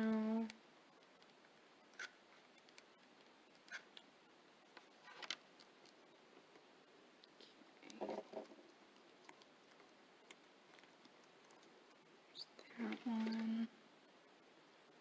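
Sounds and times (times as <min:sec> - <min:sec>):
faint clicks and light taps: 0:00.0 - 0:13.5.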